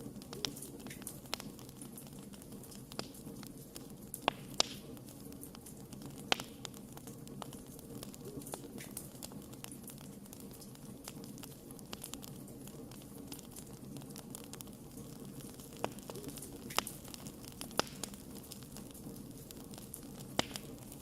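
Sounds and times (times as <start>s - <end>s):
campfire crackling: 0.0s - 21.0s
low rumble of burning fire: 0.0s - 21.0s
sharp fire pops: 0.0s - 21.0s.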